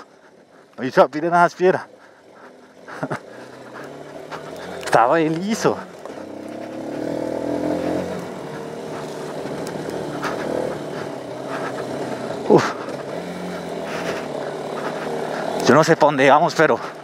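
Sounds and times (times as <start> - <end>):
motorcycle engine under load: 0.0 - 17.0.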